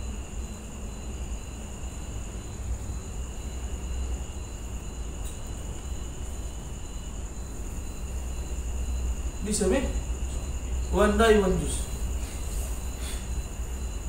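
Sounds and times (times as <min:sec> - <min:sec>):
constant high-pitched whine: 0:00.0 - 0:14.0.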